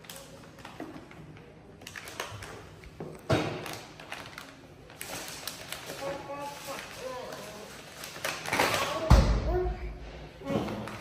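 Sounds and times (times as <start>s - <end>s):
plastic snack bag rustling: 0.0s - 9.1s.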